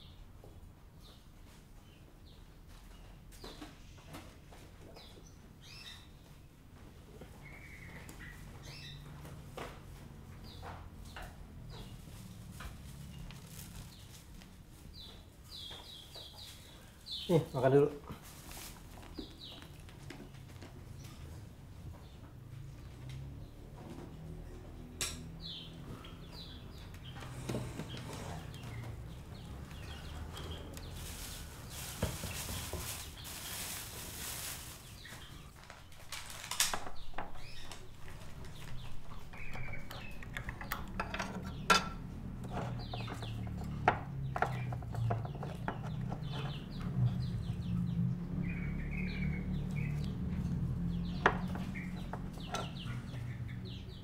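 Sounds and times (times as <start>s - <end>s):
caged birds chirping: 0.0s - 54.0s.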